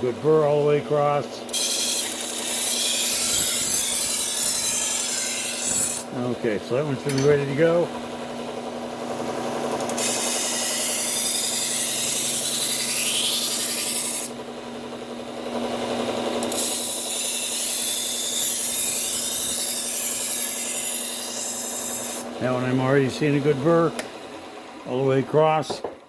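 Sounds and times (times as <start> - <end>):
belt sander hum: 0.0 - 26.0
knife grinding on belt sander: 0.2 - 25.8.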